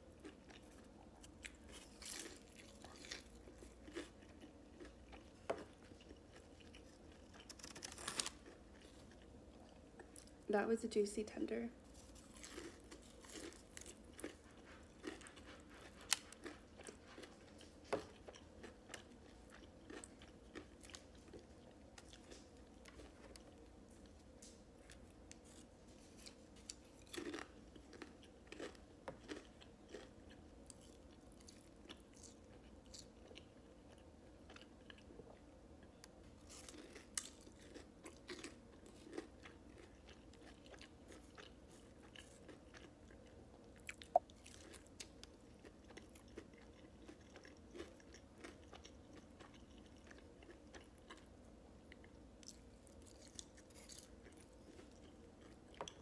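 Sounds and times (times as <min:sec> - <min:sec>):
crunchy chewing: 0:00.1 - 0:10.4, 0:11.8 - 0:56.0.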